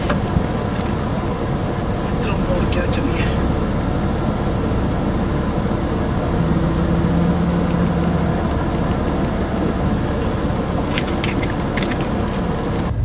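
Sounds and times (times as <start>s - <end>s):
diesel engine low rumble: 0.0s - 13.0s
steady low hum: 0.0s - 13.0s.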